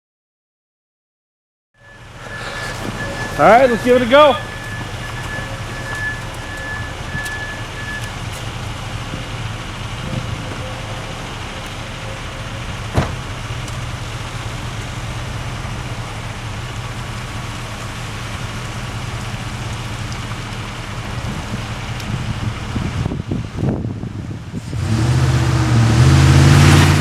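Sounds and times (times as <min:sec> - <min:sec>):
truck engine running: 0:01.8 - 0:27.0.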